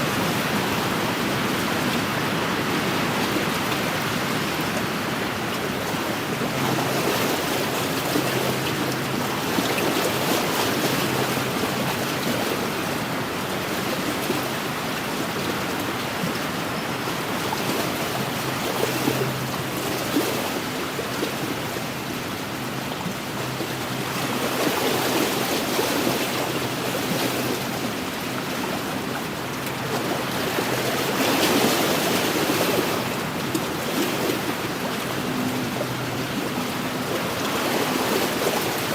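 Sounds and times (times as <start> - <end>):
waves washing against shore: 0.0 - 38.9.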